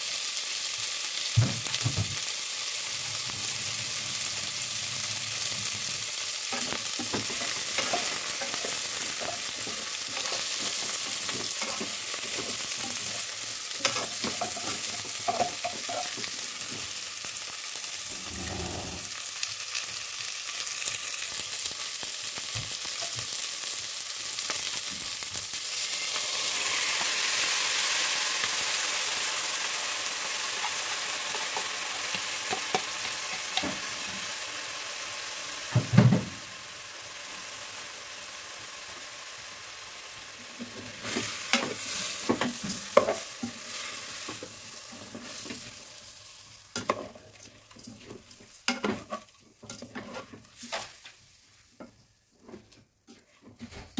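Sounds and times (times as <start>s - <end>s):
food sizzling in a pot: 0.0s - 53.9s.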